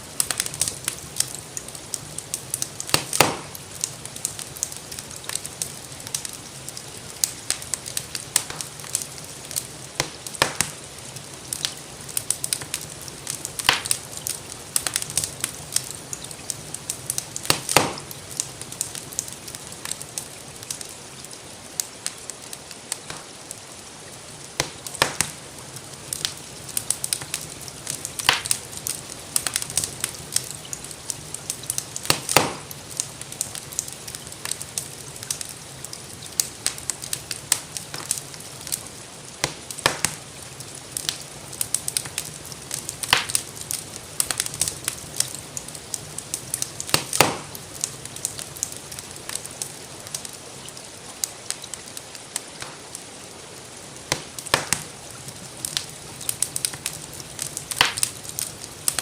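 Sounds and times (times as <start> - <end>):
rainfall hiss: 0.0 - 59.0
wood fire crackling: 0.0 - 59.0.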